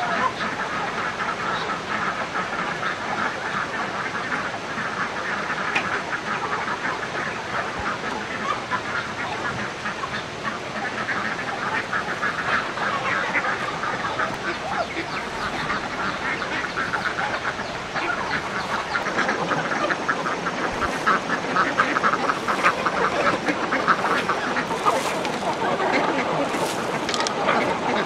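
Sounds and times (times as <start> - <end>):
chorus of animal calls: 0.0 - 28.0.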